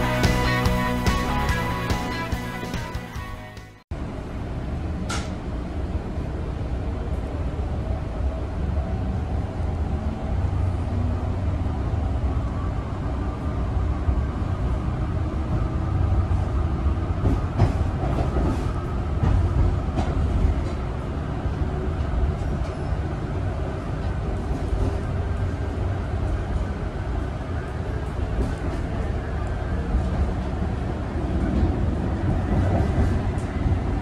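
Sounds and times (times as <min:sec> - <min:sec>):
wheels rumbling on track: 0:04.0 - 0:34.0.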